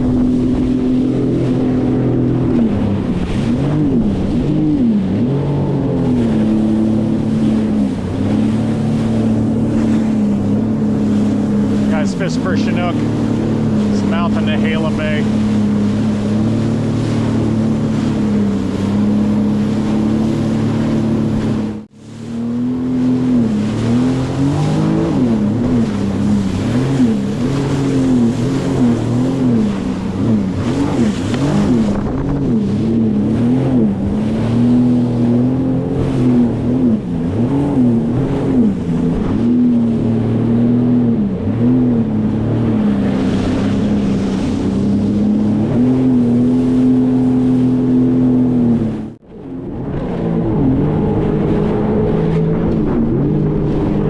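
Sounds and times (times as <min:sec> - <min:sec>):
personal watercraft engine: 0:00.0 - 0:54.0
water rushing: 0:00.0 - 0:54.0
wind: 0:00.0 - 0:54.0.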